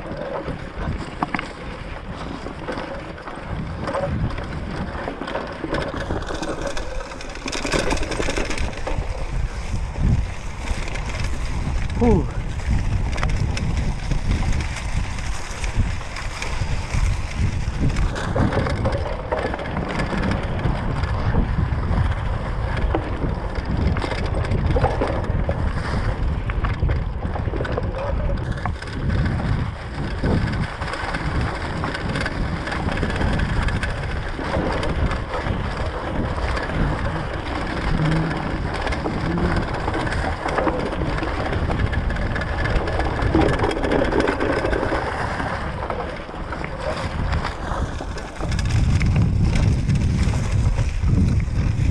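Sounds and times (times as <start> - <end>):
bike tyres crunching over leaves: 0.0 - 51.9
wind noise on microphone: 0.0 - 51.9.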